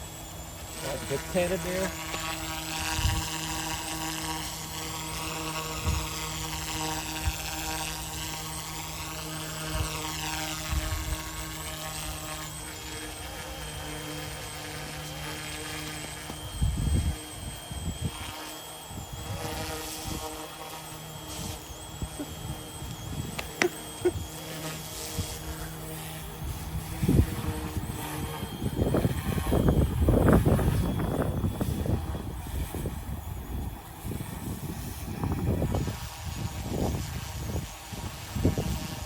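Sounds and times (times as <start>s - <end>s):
remote-control helicopter buzzing whine: 0.0s - 39.0s.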